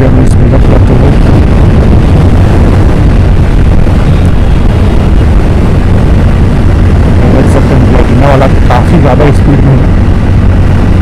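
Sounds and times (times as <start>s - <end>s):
motorcycle engine: 0.0s - 11.0s
road noise: 0.0s - 11.0s
wind rumble on microphone: 0.0s - 11.0s.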